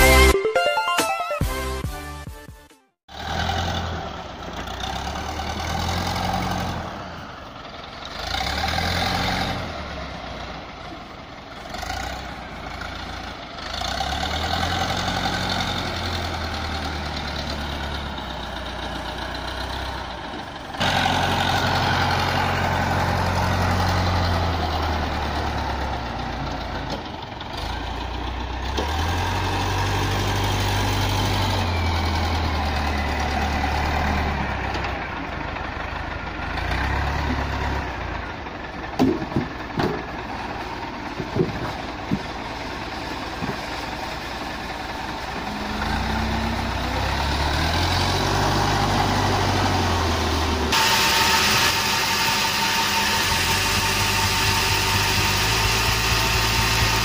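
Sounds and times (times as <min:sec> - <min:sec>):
diesel engine revving: 0:03.1 - 0:57.0.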